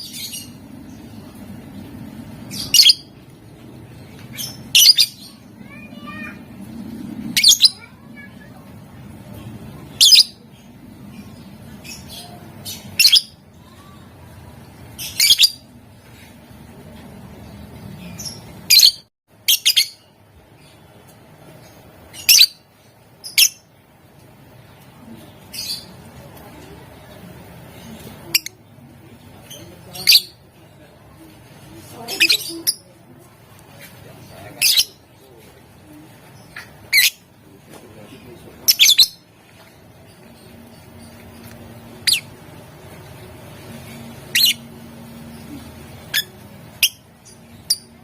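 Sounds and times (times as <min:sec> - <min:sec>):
low background noise: 0:00.0 - 0:48.0.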